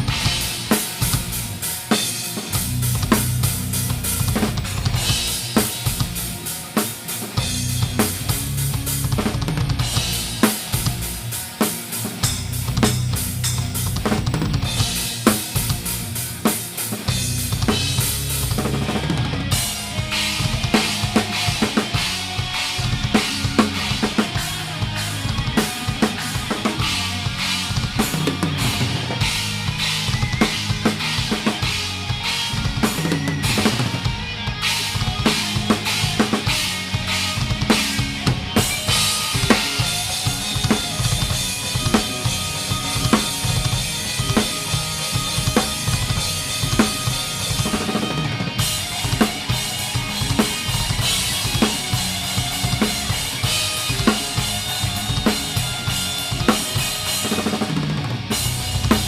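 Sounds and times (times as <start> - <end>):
drum kit hits and cymbals: 0.0 - 59.0
rock band playing live: 0.0 - 59.0.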